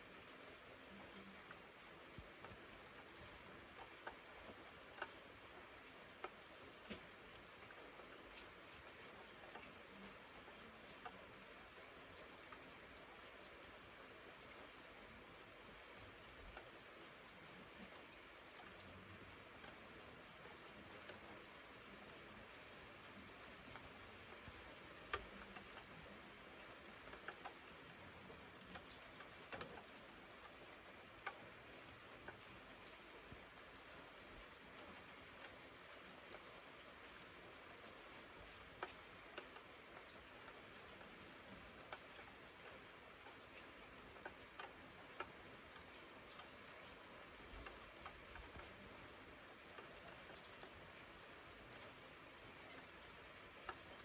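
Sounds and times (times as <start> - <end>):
light rain hissing: 0.0 - 54.0
single raindrops ticking: 0.0 - 54.0.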